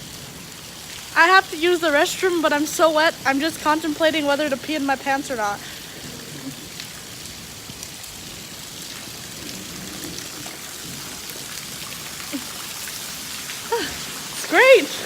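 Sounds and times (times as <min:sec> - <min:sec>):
heavy rain hissing: 0:00.0 - 0:15.0
raindrop ticks: 0:00.4 - 0:15.0.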